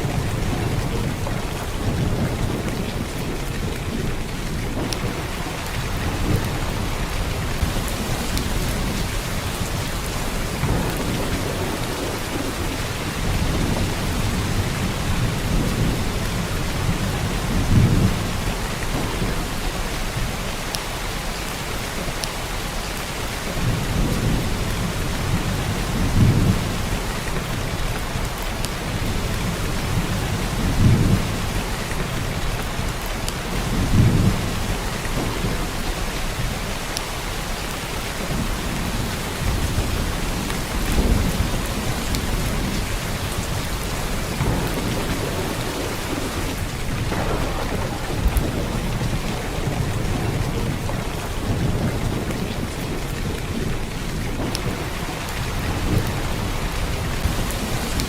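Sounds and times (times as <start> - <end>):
deep thunder rumbles: 0.0 - 22.2, 23.4 - 58.0
heavy rain pouring: 0.0 - 58.0.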